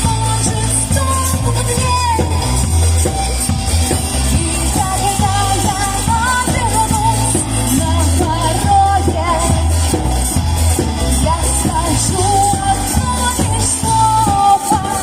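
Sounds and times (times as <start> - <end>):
pop-rock song with singing: 0.0 - 15.0.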